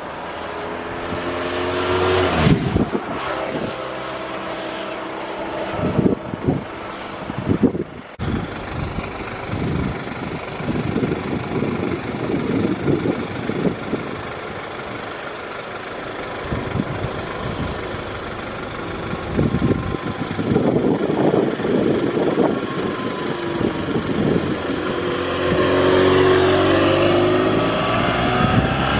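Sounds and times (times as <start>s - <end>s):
rush of wind noise: 0.0s - 14.4s, 16.4s - 28.9s
motorcycle engine running: 4.4s - 28.9s.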